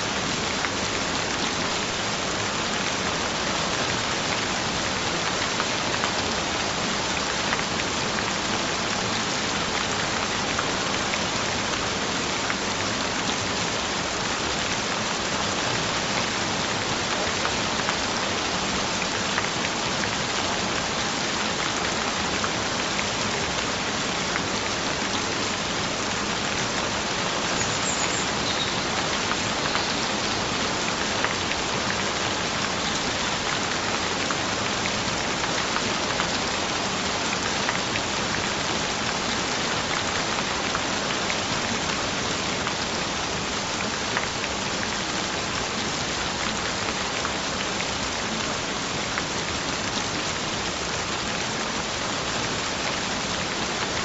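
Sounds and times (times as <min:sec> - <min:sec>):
gentle rain hissing: 0:00.0 - 0:54.0.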